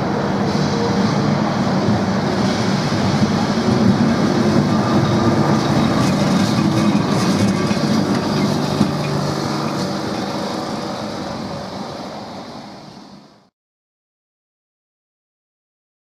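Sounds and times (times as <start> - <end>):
tram wheels on rails: 0.0 - 13.5.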